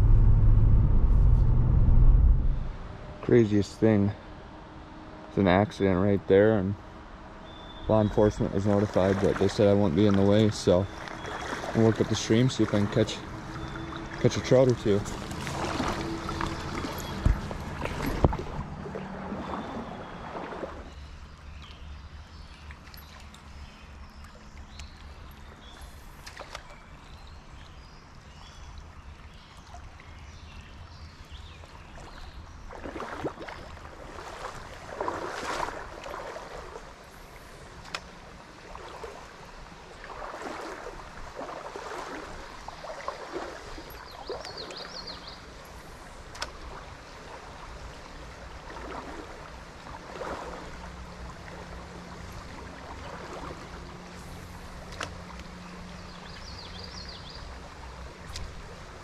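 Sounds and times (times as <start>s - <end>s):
swishing water surges: 0.0s - 59.0s
stream running over rocks: 7.9s - 26.9s, 29.3s - 59.0s.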